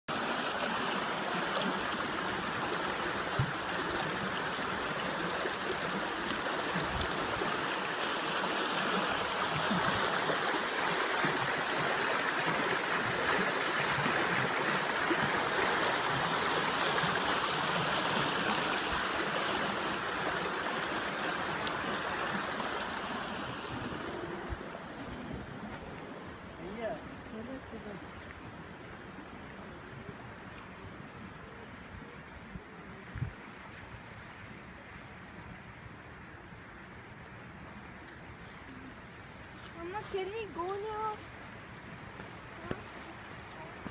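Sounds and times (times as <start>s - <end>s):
floodwater rushing in creek: 0.1s - 43.9s.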